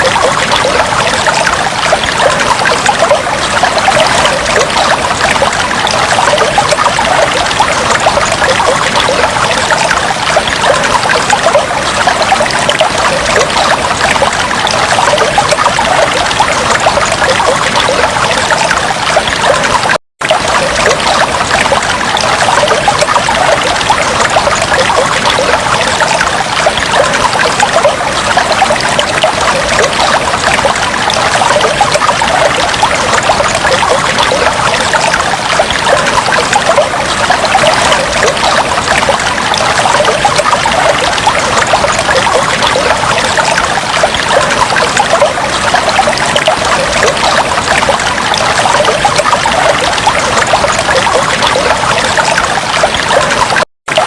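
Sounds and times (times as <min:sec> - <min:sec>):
aquarium water trickling: 0:00.0 - 0:54.0.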